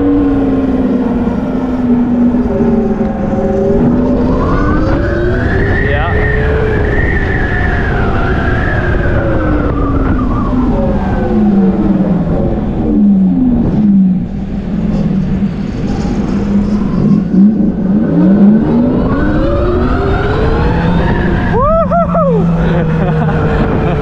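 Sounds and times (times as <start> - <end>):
electric motorcycle motor whine: 0.0 - 21.6
steady low rumble: 0.0 - 24.0.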